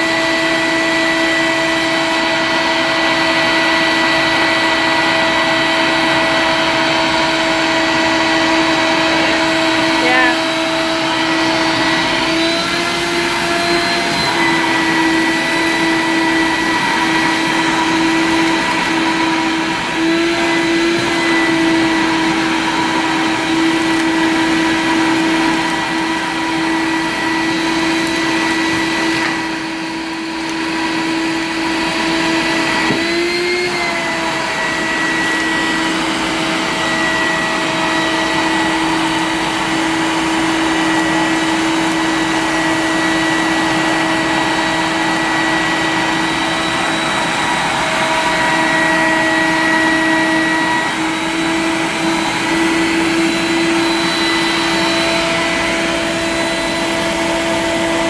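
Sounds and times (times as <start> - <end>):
shop vacuum running: 0.0 - 58.0.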